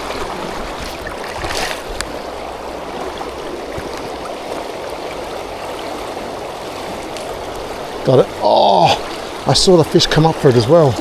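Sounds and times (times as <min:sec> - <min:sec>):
river water rushing over stones: 0:00.0 - 0:11.0.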